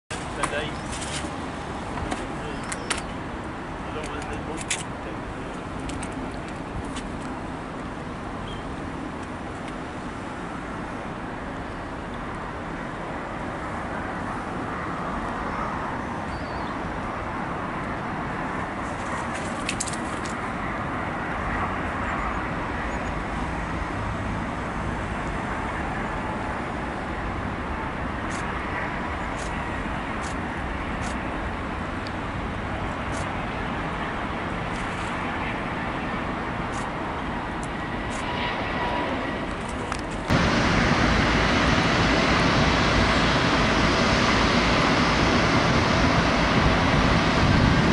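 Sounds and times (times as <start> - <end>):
jet engines rumbling: 0.1 - 47.9.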